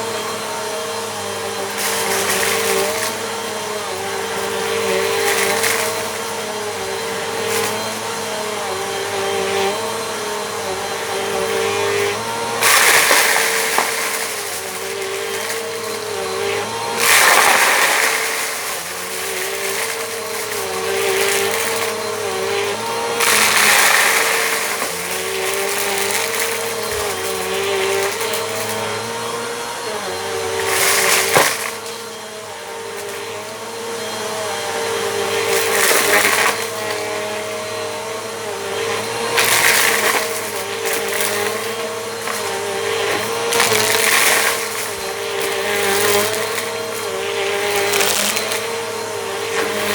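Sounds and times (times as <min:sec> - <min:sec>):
vacuum cleaner running: 0:00.0 - 0:49.9
grit crunching: 0:01.4 - 0:32.2, 0:38.8 - 0:49.9.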